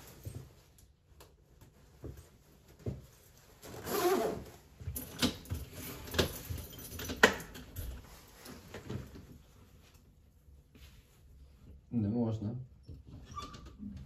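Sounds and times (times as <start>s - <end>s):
rustle at front door: 0.0s - 11.7s.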